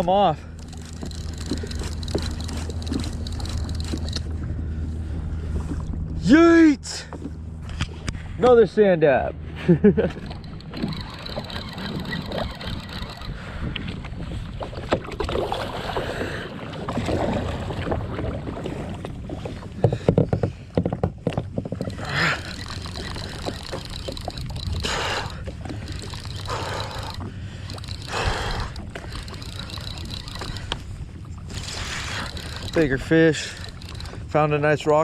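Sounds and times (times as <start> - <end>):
water sloshing around kayak: 0.0 - 6.2, 10.1 - 35.0.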